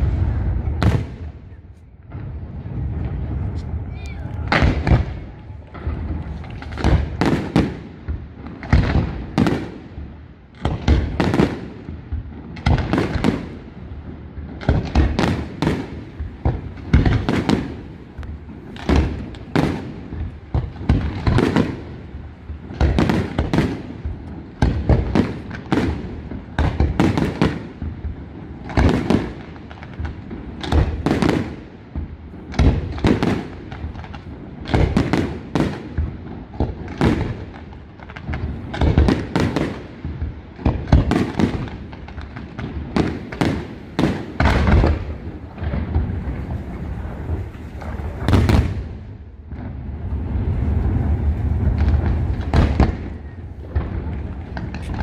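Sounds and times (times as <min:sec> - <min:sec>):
fireworks bangs and bursts: 0:00.0 - 0:55.0.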